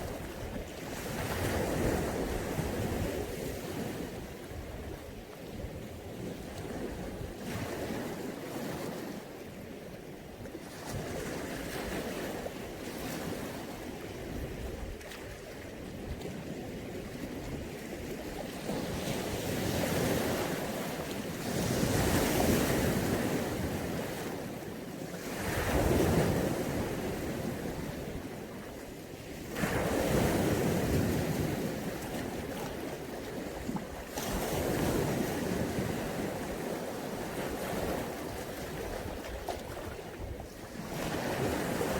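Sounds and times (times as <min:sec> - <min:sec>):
sea waves washing onto shore: 0:00.0 - 0:41.9
wind on microphone: 0:00.0 - 0:41.9.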